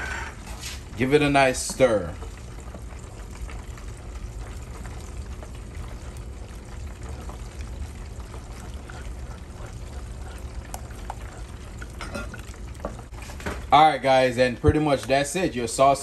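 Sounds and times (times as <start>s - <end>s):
sauce bubbling in a pot: 0.0s - 16.0s.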